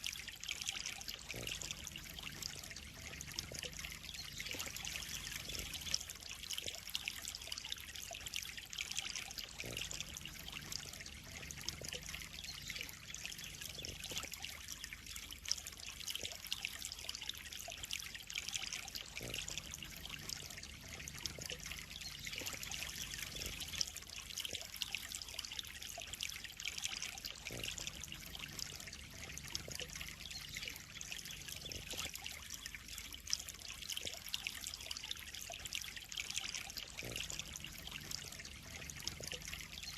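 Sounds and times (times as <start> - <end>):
water drip clicks: 0.0 - 39.9
water trickling into pond: 0.0 - 39.9.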